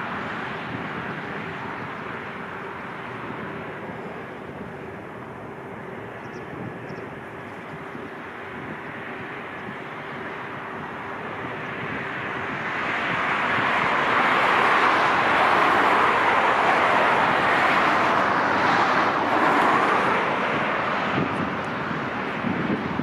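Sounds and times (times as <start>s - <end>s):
jet airliner passing: 0.0s - 23.0s.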